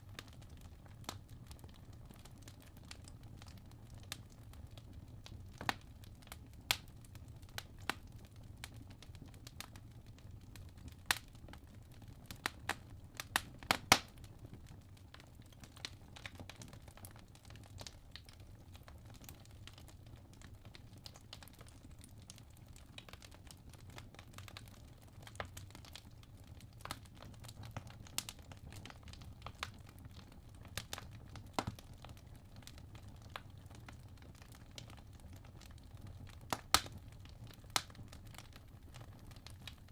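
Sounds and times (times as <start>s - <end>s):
logs crackling and popping: 0.1s - 39.9s.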